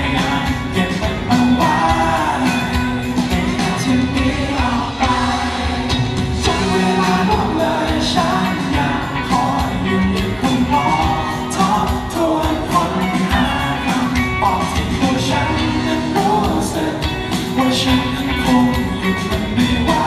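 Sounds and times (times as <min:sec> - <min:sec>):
lead vocalist singing: 0:00.0 - 0:20.0
live band playing: 0:00.0 - 0:20.0.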